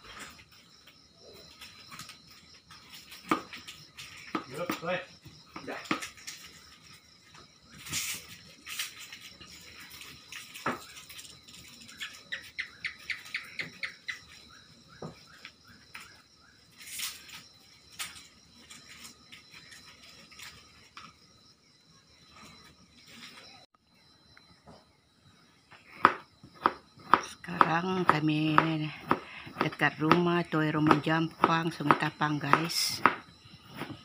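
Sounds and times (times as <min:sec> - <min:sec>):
high insect drone: 0:00.0 - 0:34.0.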